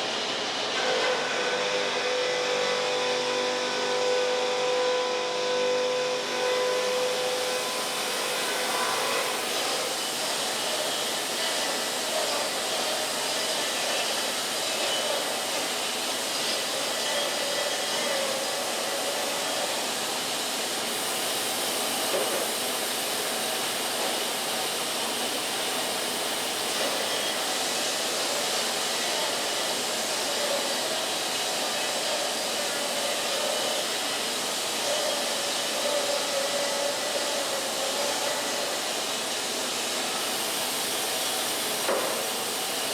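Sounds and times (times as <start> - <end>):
band sawmill running: 0.0 - 42.9.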